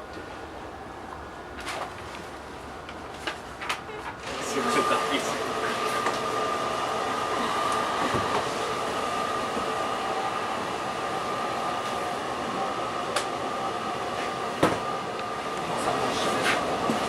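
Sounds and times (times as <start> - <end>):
electric train humming and whining: 2.2 - 17.0.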